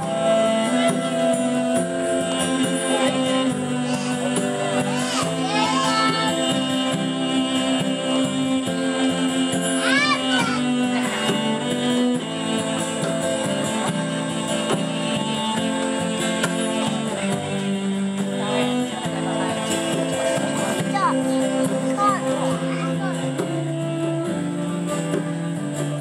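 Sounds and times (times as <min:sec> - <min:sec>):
acoustic instruments playing: 0:00.0 - 0:26.0
bowed cello: 0:00.0 - 0:26.0.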